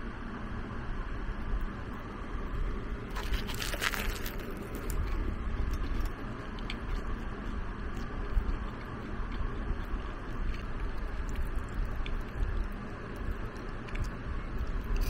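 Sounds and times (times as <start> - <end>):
crunchy chewing: 2.6 - 15.0.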